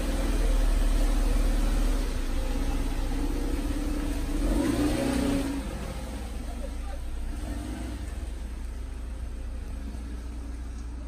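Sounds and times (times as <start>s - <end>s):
suv engine running: 0.0s - 11.0s.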